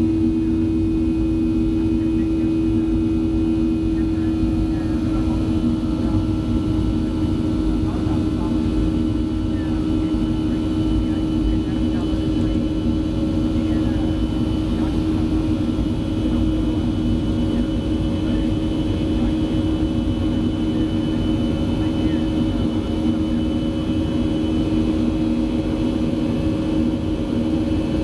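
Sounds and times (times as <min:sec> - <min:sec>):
jet engines droning in cabin: 0:00.0 - 0:28.0.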